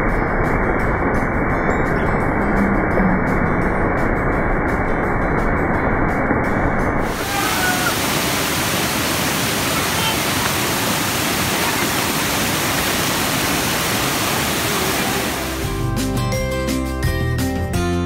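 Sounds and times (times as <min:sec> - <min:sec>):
waterfall rushing over rocks: 0:00.0 - 0:15.8.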